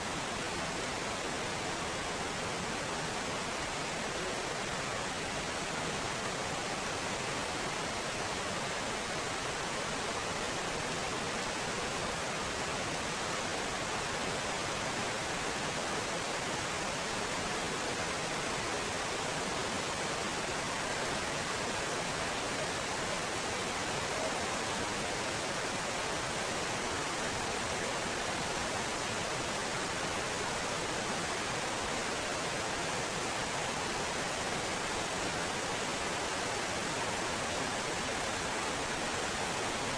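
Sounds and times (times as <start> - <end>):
stream cascading over rocks: 0.0 - 39.9.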